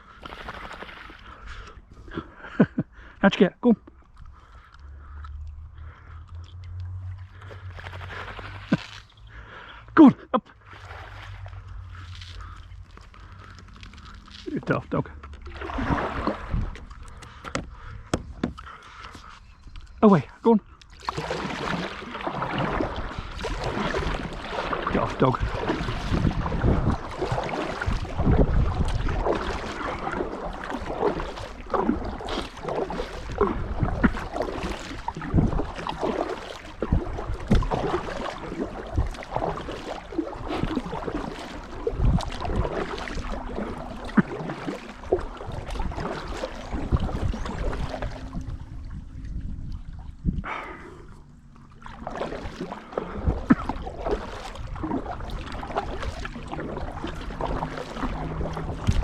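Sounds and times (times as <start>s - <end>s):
paddle splashing through water: 0.0s - 2.4s, 5.8s - 9.8s, 10.6s - 59.0s.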